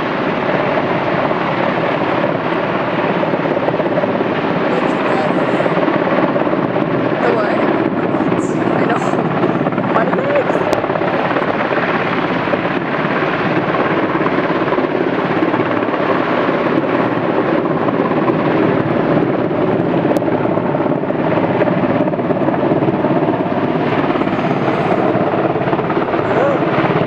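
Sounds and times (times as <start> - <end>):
helicopter hovering: 0.0 - 27.0.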